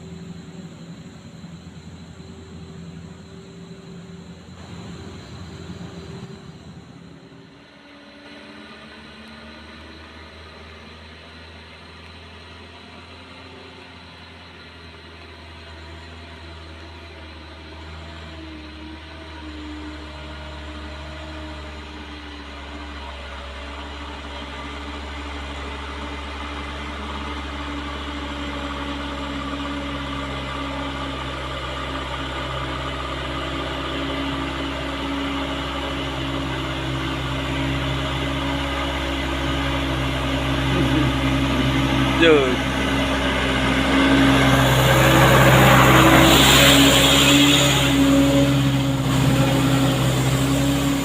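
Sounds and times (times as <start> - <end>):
truck engine running: 0.0 - 51.0.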